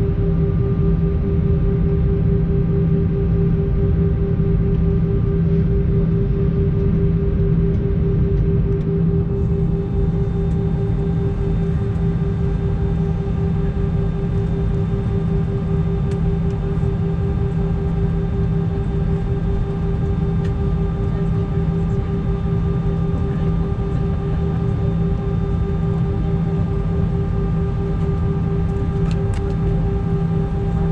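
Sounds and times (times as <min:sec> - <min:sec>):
jet engines heard in cabin: 0:00.0 - 0:30.9.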